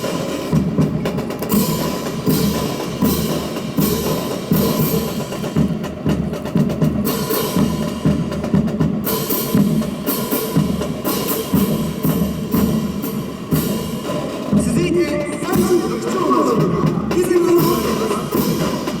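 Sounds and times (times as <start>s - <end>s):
drum beat: 0.0s - 19.0s.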